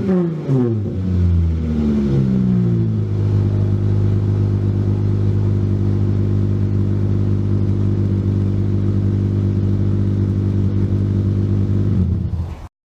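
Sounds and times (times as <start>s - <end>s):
car engine idling: 0.3s - 12.7s.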